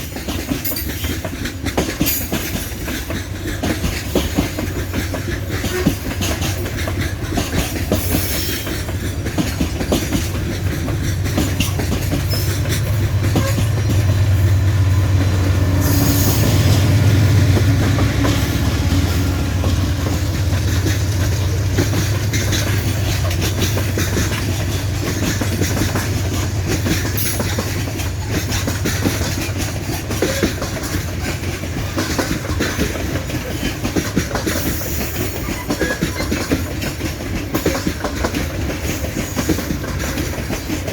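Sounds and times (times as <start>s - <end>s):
train wheel squeal: 0.0s - 10.6s, 11.2s - 40.9s
low rumble of train wagons: 0.0s - 40.9s
wheels clicking over rail joints: 0.0s - 40.9s.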